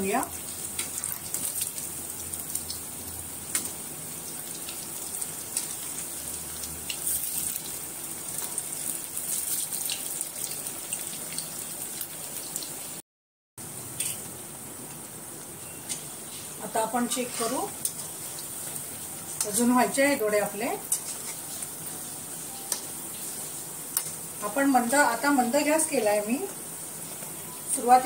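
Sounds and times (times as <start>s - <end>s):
deep-frying sizzle in oil: 0.0s - 13.0s, 13.6s - 28.0s.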